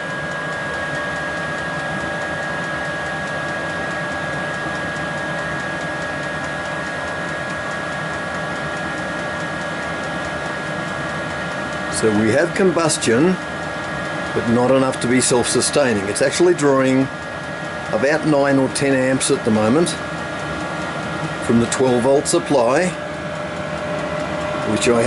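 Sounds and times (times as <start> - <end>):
heater blower fan whining: 0.0 - 25.0.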